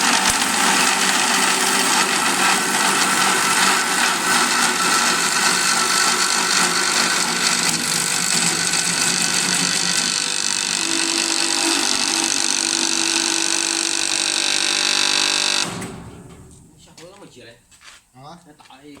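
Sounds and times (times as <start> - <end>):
hiss of wood cutting: 0.0 - 15.8
lathe machine whine: 0.0 - 16.0.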